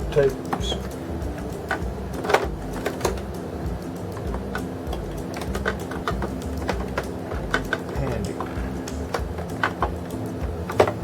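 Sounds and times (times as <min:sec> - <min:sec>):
plastic parts clicking and knocking: 0:00.0 - 0:11.0.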